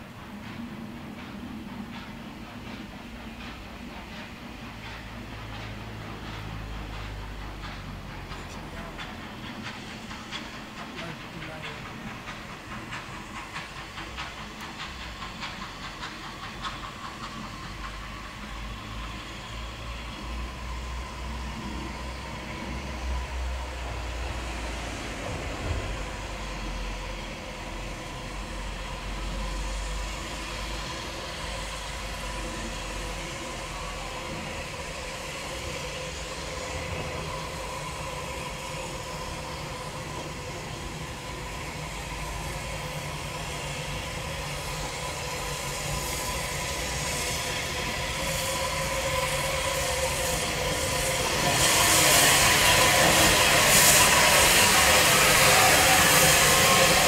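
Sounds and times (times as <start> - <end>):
loud hiss of steam: 0.0 - 57.0
steam locomotive running: 0.0 - 57.0.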